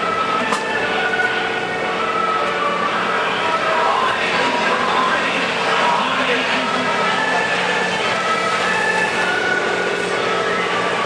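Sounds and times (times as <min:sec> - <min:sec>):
racing engine drone: 0:00.0 - 0:11.0.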